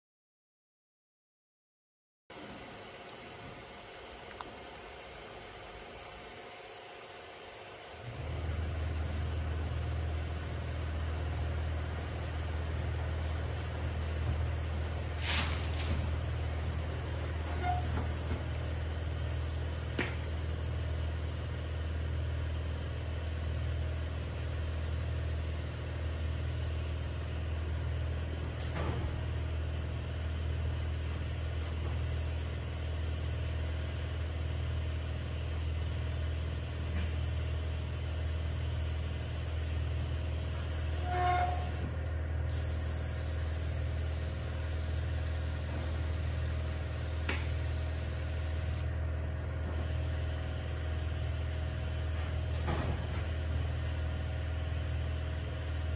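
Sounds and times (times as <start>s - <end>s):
glue unit humming: 2.4s - 55.9s.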